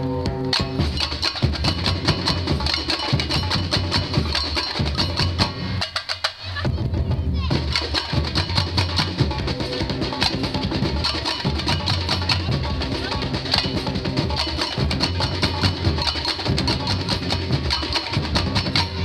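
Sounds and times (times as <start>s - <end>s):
samba percussion band: 0.4s - 19.0s.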